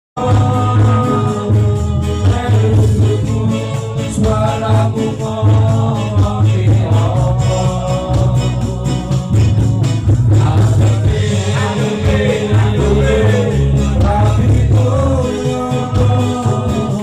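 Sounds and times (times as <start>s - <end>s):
backing music with bass beat: 0.2s - 17.0s
man singing: 0.2s - 17.0s.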